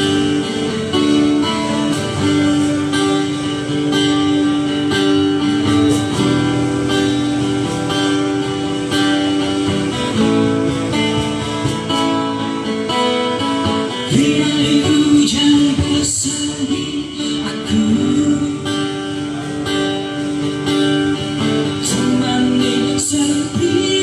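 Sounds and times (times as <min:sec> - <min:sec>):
guitar picking and strumming: 0:00.0 - 0:24.0.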